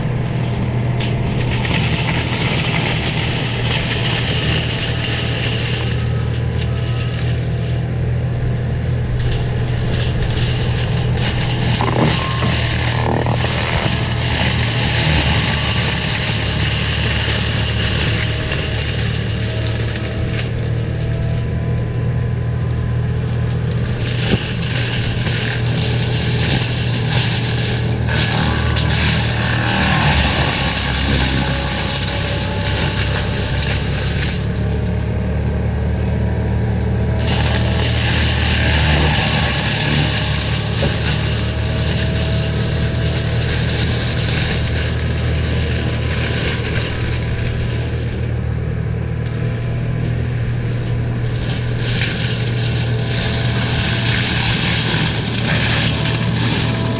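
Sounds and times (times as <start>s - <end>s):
brush grinding and crunching: 0.0s - 56.9s
mulcher engine droning: 0.0s - 56.9s.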